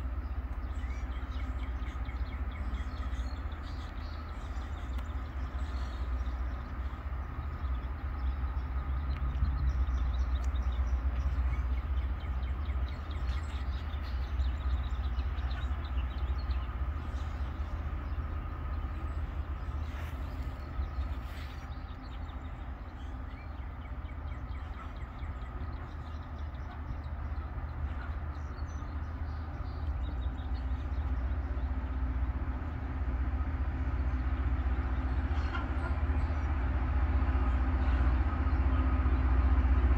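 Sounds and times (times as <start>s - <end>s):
rail grinder drone: 0.0s - 39.9s.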